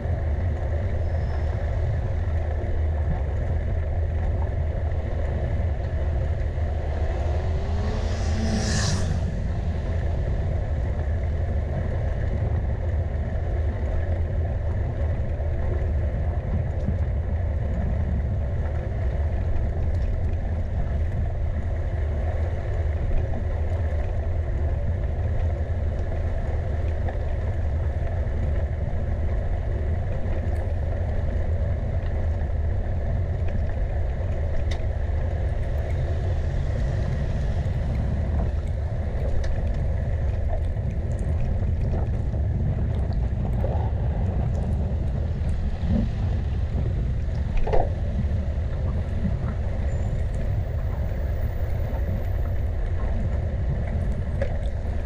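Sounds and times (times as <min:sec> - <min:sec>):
road noise: 0:00.0 - 0:16.4, 0:17.1 - 0:55.0
wind buffeting microphone: 0:00.0 - 0:55.0.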